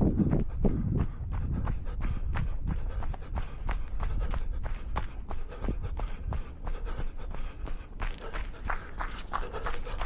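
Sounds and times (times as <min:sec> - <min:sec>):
running footsteps in snow: 0:00.4 - 0:10.0.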